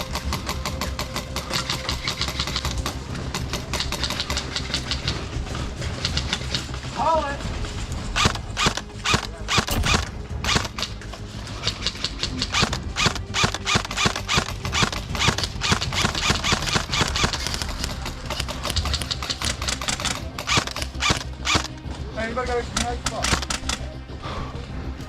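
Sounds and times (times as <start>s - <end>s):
airsoft guns firing: 0.0s - 6.8s, 8.1s - 21.8s, 22.7s - 24.0s.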